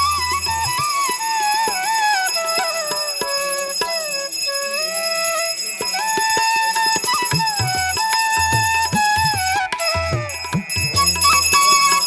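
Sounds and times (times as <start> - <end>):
bell-like tinkles: 0.0 - 12.0
wind instrument melody: 0.0 - 12.0.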